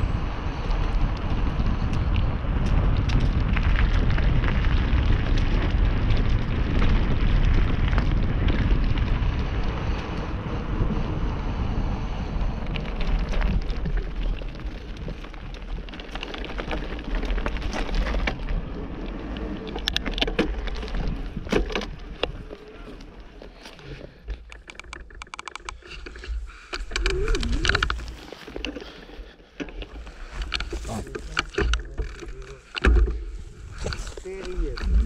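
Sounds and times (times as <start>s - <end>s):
wind on microphone: 0.0s - 24.0s, 24.7s - 28.8s, 29.9s - 35.0s
bike tyres rolling on gravel: 0.0s - 35.0s
sharp clicks and crackles: 0.5s - 10.6s, 12.3s - 35.0s.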